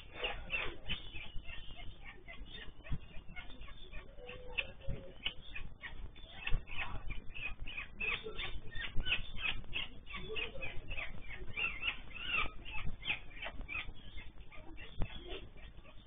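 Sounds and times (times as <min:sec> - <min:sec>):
parrots chirping and clicking: 0:00.0 - 0:16.0.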